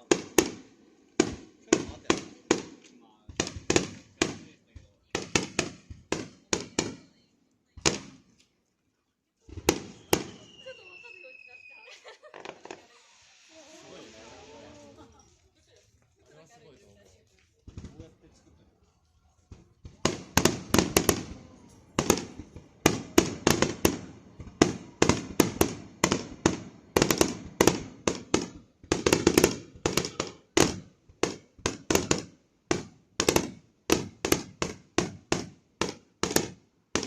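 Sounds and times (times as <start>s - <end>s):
fireworks bangs: 0.0s - 7.2s, 7.8s - 8.4s, 9.5s - 15.1s, 19.5s - 37.0s.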